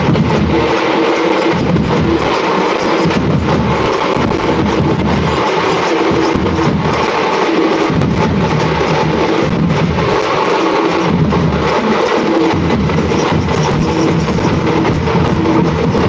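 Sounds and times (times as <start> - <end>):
barrel drums beating: 0.0 - 16.0.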